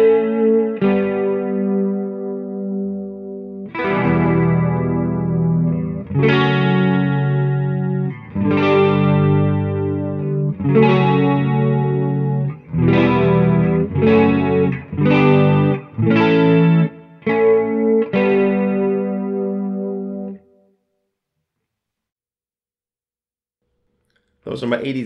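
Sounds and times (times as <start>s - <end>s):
electric guitar strumming chords: 0.0s - 20.5s.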